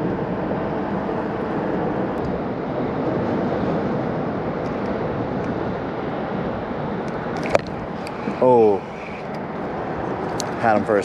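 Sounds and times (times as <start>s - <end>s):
traffic rumble overhead: 0.0s - 11.0s.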